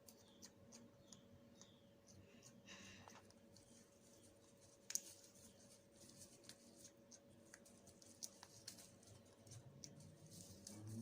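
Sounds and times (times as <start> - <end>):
faint steady hum: 0.0 - 11.0
small clicks and crackles: 0.0 - 11.0.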